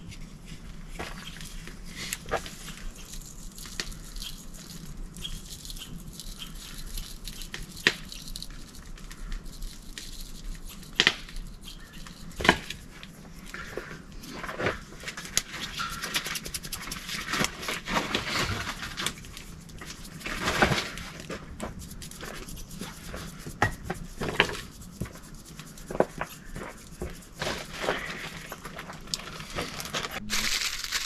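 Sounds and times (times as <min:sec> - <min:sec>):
spice shaker rattling: 0:02.6 - 0:13.1, 0:15.2 - 0:17.9, 0:18.7 - 0:31.0.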